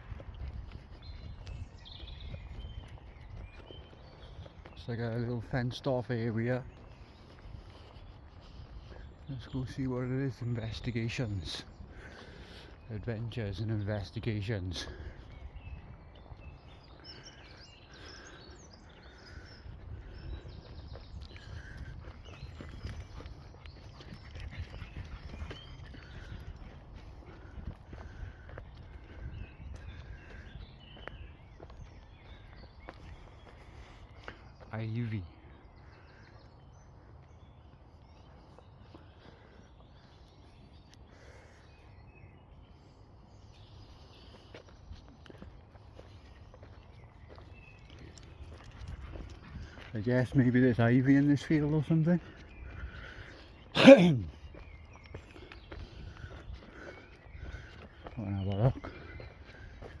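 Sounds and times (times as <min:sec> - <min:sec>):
birds singing and chirping: 0:00.0 - 1:00.0.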